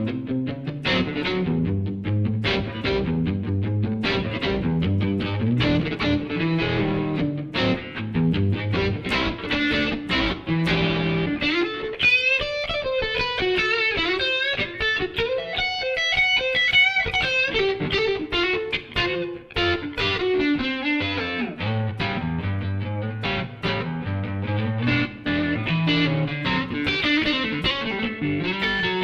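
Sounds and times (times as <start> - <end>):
overdriven electric guitar blues: 0.0 - 29.0.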